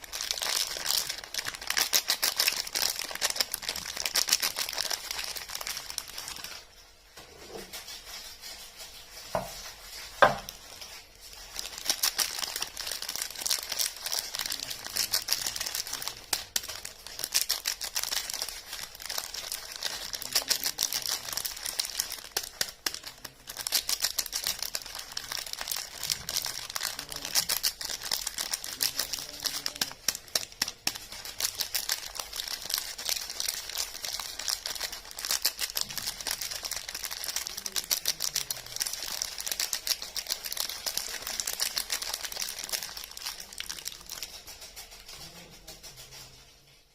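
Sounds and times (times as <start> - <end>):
wrapper crinkling and rustling: 0.0 - 46.8.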